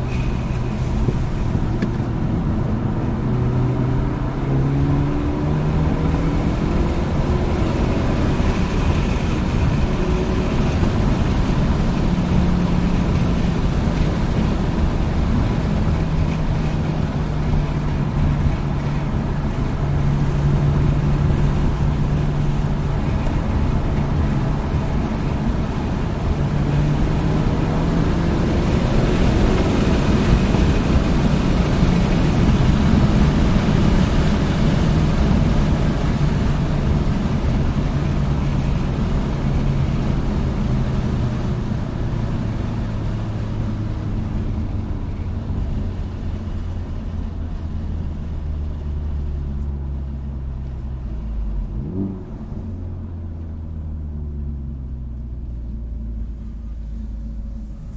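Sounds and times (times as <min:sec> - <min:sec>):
car engine running: 0:00.0 - 0:57.9
road and wind noise: 0:00.0 - 0:57.9.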